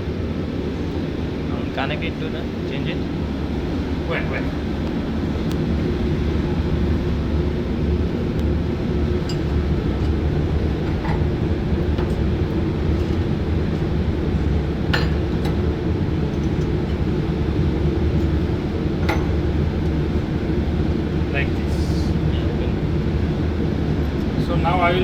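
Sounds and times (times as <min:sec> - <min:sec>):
machinery drone: 0:00.0 - 0:25.0.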